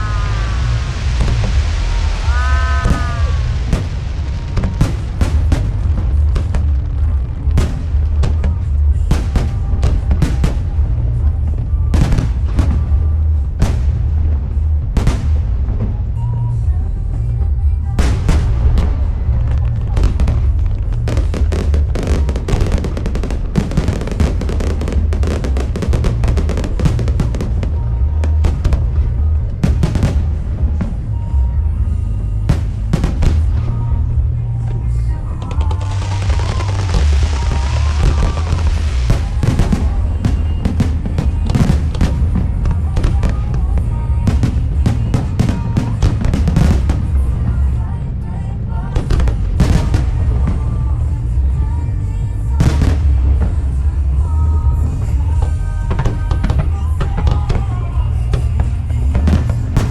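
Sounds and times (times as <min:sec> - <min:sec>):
music with heavy bass beat: 0:00.0 - 0:47.6, 0:49.0 - 0:59.9
fireworks bursting and crackling: 0:00.0 - 0:59.9.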